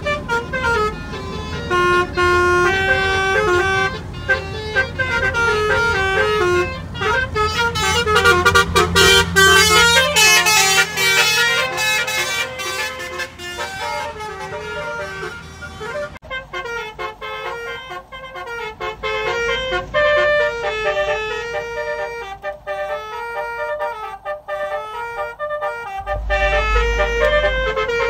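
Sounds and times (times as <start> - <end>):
engine and road hum: 0.0 - 28.0
multi-tone car horns playing tune: 0.0 - 28.0.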